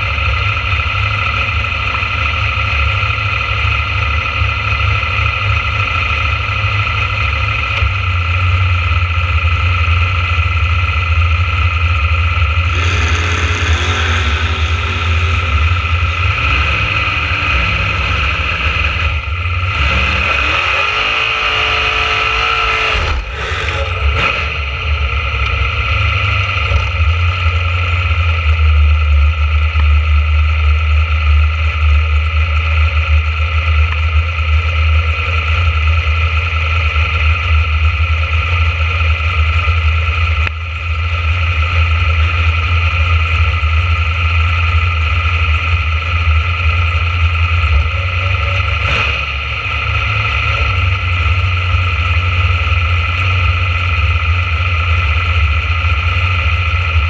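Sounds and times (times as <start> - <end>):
dragster engine idling and revving: 0.0 - 57.0.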